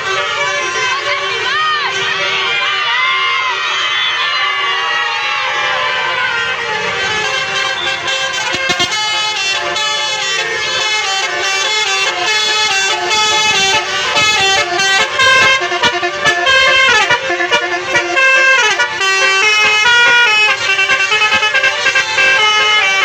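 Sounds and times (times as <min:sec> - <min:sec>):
multi-tone air horn melodies: 0:00.0 - 0:23.0.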